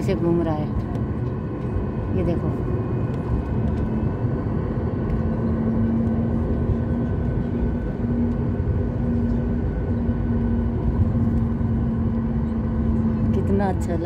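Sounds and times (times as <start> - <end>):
high jet engine whine: 0.0 - 14.0
jet engines rumbling: 0.0 - 14.0.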